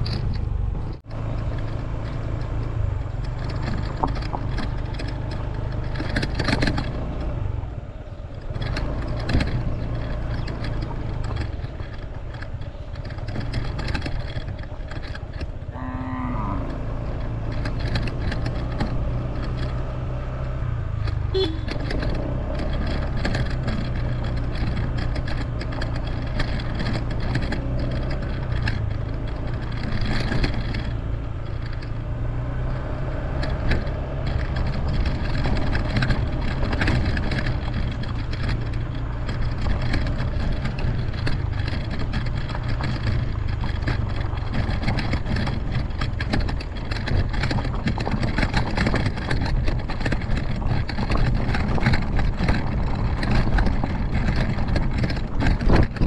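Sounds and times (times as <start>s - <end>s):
knocks and rattles: 0.0s - 56.0s
scooter engine running: 0.0s - 56.0s.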